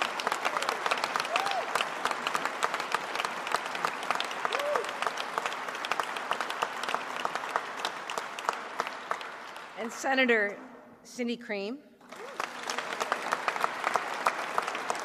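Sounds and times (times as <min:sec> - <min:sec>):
audience applauding: 0:00.0 - 0:10.0, 0:12.0 - 0:15.0.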